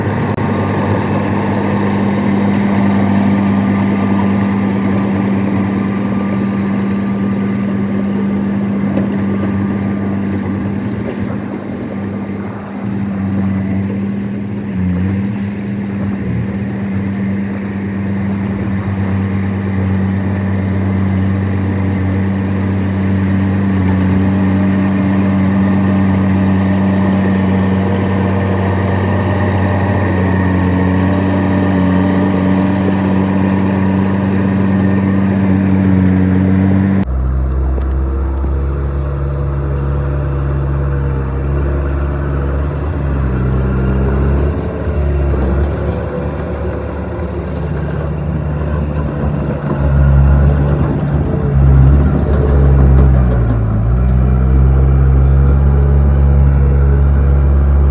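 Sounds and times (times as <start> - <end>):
bulldozer diesel engine running: 0.0 - 57.9.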